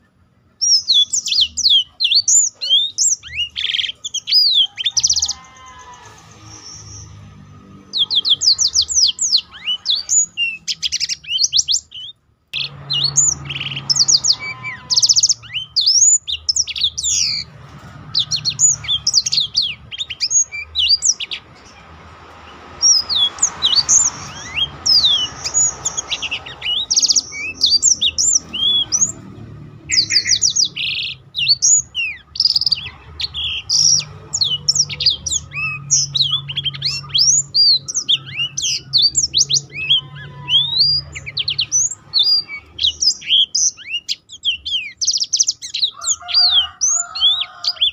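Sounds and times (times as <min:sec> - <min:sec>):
canary singing: 0:00.0 - 0:47.9.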